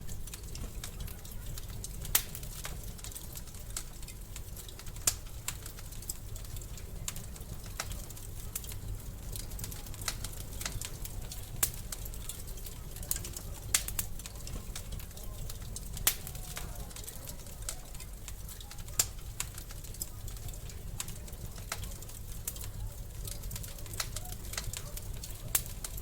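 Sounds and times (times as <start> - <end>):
loud fire pops: 0.0 - 26.0
wood fire crackling: 0.0 - 26.0.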